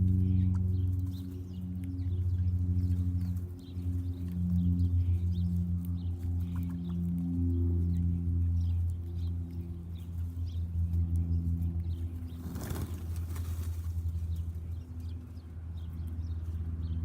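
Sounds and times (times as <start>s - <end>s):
low mechanical hum: 0.0s - 17.0s
small birds chirping: 0.0s - 17.0s.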